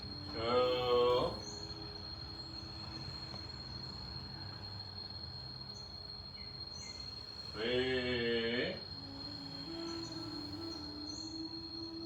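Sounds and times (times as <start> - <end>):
faint chirps: 0.0 - 12.0
high-pitched insect drone: 0.0 - 12.0.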